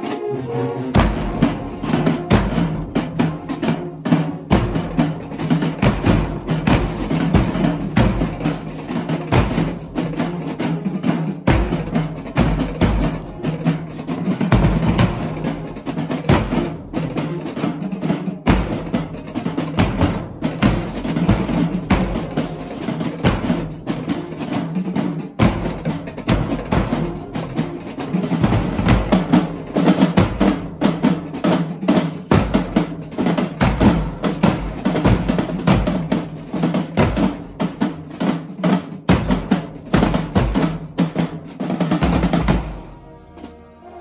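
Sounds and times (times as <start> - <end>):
marching drumline playing: 0.0 - 44.0.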